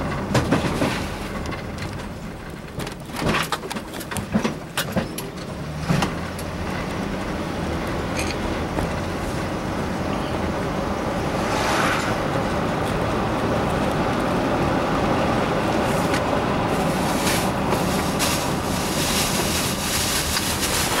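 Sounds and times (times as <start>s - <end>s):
vehicle cabin road noise: 0.0s - 21.0s.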